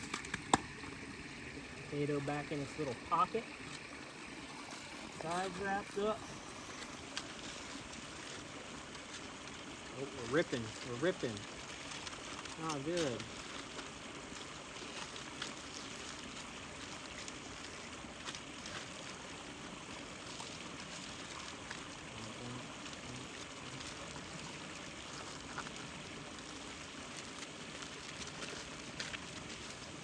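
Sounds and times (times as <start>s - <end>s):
campfire crackling and popping: 0.0s - 1.4s, 2.3s - 30.0s.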